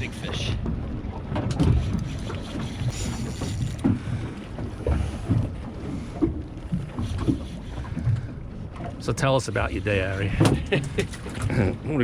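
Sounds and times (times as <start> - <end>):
water slapping hull: 0.0 - 12.0
wind rumbling on microphone: 0.0 - 12.0.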